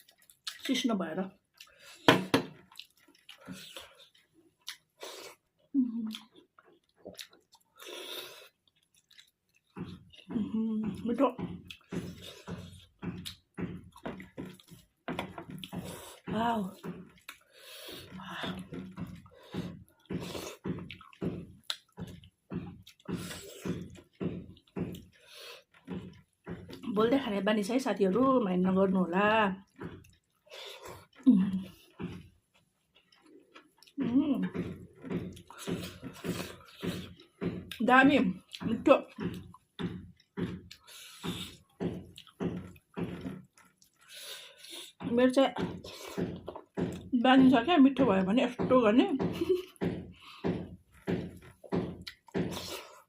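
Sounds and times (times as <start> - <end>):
person chewing food: 0.0 - 26.9, 29.6 - 47.2, 49.2 - 53.0.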